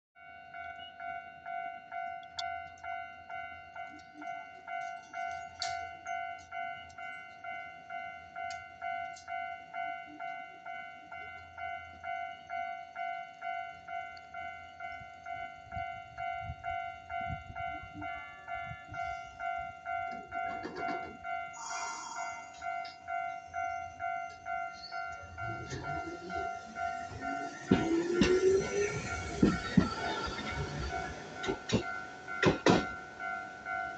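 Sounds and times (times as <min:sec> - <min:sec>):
level crossing bell ringing: 0:00.3 - 0:33.9
tram rumbling: 0:01.6 - 0:33.9.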